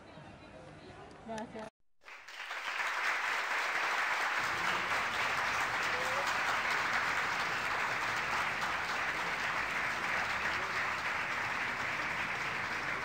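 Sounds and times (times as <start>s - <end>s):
crowd applauding: 2.0s - 13.0s.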